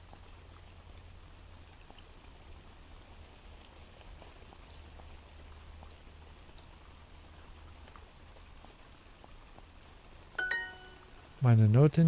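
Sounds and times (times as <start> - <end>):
rain patter: 0.0 - 12.0.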